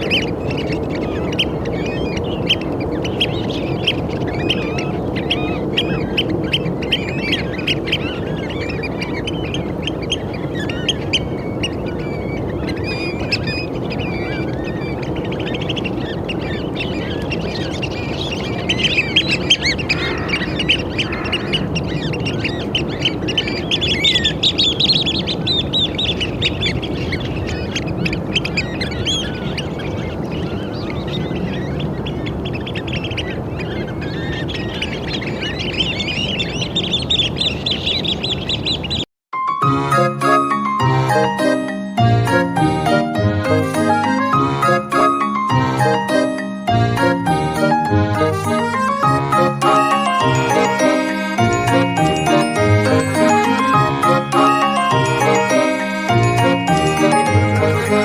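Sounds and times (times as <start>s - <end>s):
shrill piping bird calls: 0.0s - 39.0s, 39.9s - 58.0s.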